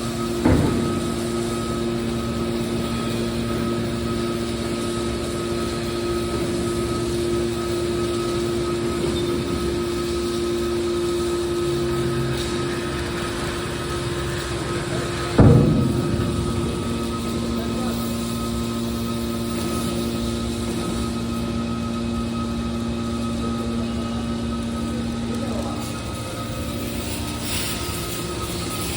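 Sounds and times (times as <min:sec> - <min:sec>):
baler motor and pump humming: 0:00.0 - 0:28.9.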